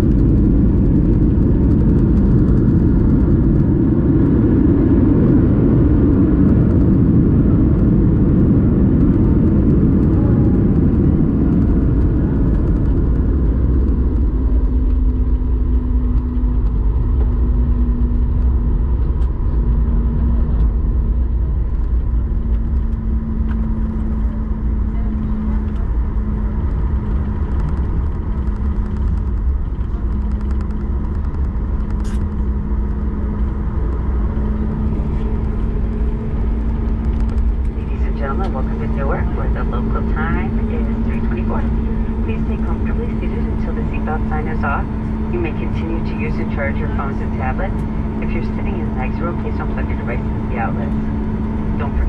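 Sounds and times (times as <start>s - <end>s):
airplane cabin rumble on landing: 0.0s - 52.0s
low steady hum: 0.0s - 52.0s.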